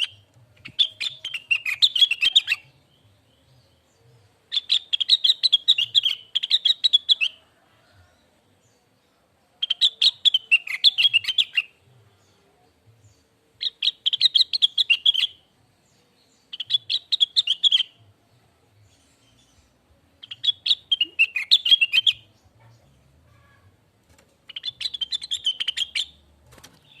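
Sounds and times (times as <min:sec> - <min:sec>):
bird twittering song: 0:00.0 - 0:07.4, 0:09.6 - 0:23.7, 0:24.4 - 0:27.0.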